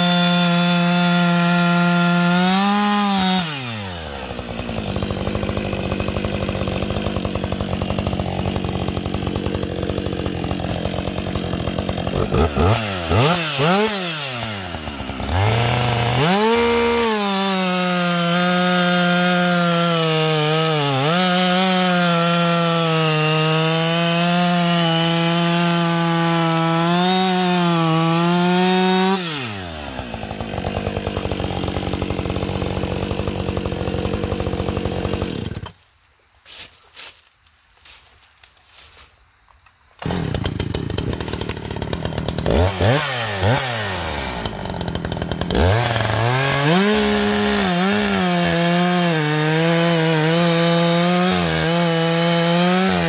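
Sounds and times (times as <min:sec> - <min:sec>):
chainsaw cutting and idling: 0:00.0 - 0:35.8, 0:40.0 - 0:53.0.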